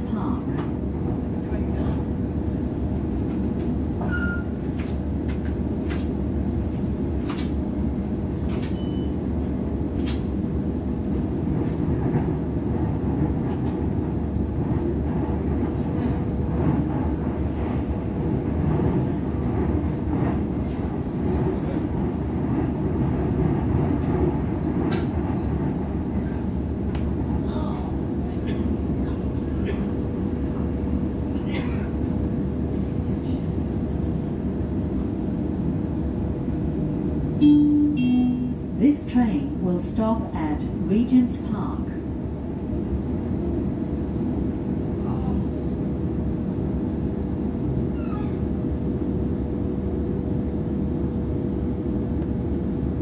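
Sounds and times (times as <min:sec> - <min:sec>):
constant hum: 0:00.0 - 0:53.0
train wheels rumbling on rail: 0:00.0 - 0:53.0.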